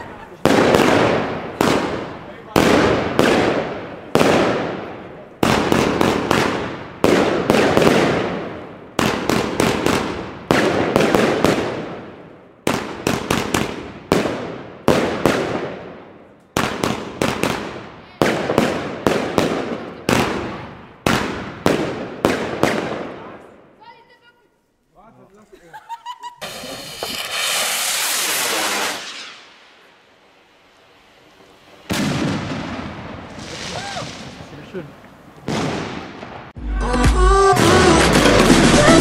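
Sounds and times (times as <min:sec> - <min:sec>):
fireworks bangs with crackle: 0:00.0 - 0:23.6, 0:26.4 - 0:36.6, 0:37.5 - 0:39.0.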